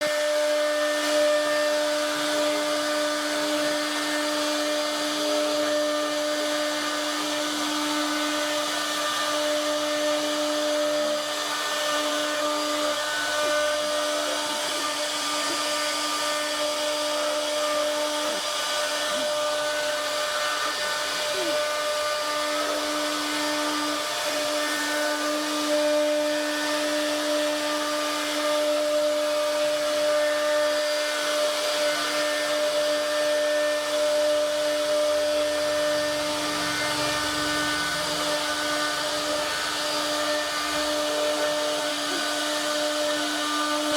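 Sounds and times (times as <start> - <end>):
router spindle cutting wood: 0.0 - 43.9.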